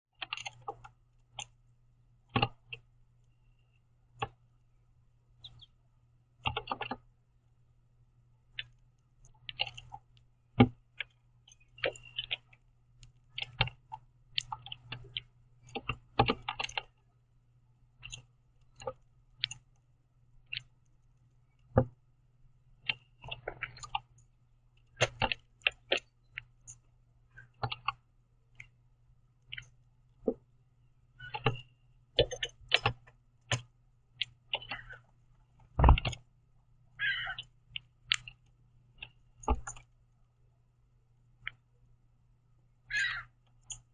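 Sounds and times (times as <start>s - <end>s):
faint low hum: 0.1s - 43.9s.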